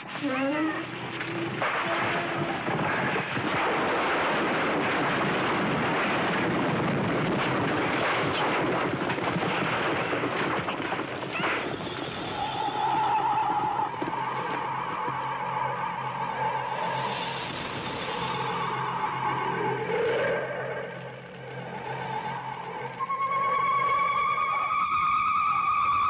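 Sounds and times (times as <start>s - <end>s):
fire roaring and crackling: 0.8s - 23.0s.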